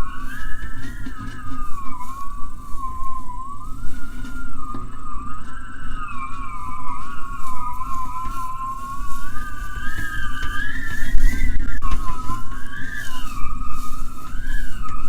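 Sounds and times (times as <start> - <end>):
wavering resonator tone: 0.0 - 15.0.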